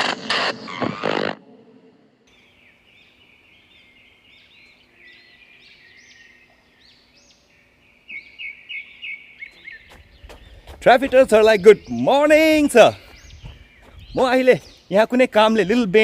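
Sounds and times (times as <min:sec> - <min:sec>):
birds chirping: 0:02.3 - 0:16.0.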